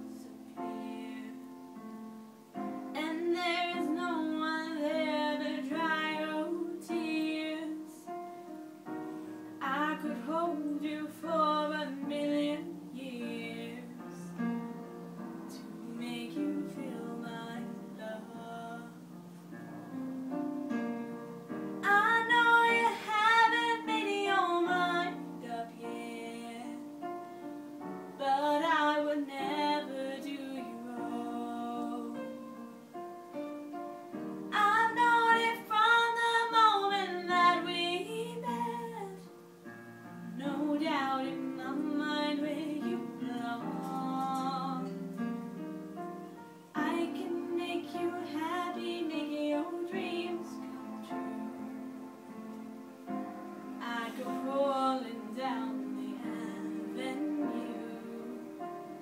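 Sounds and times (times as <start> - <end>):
girl singing a slow ballad: 0.0 - 20.5, 21.5 - 59.0
instrumental accompaniment: 0.0 - 59.0.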